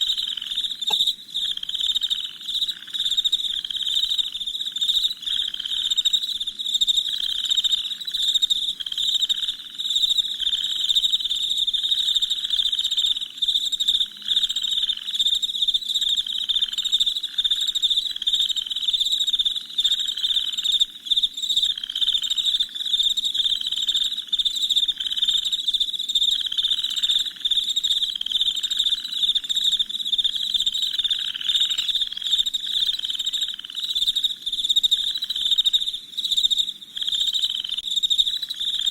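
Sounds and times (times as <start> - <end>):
crickets trilling: 0.0 - 38.9
low pulsing insect call: 0.0 - 38.9.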